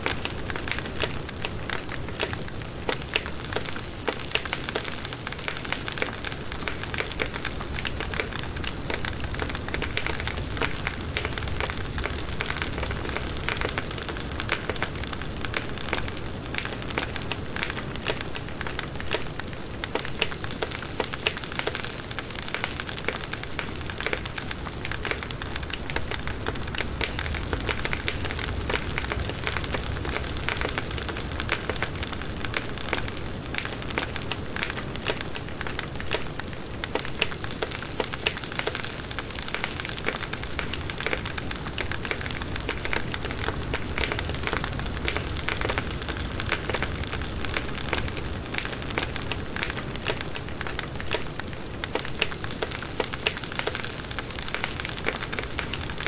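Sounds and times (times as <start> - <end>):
low rumble of flames: 0.0 - 20.6, 23.3 - 38.7, 39.4 - 56.0
campfire crackling and popping: 0.0 - 56.0.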